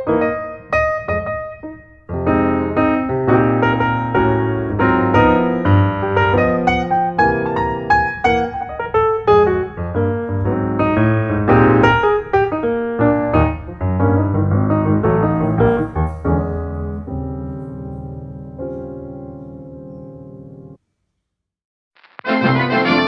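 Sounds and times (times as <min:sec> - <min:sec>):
piano music: 0:00.0 - 0:20.8, 0:22.2 - 0:23.0.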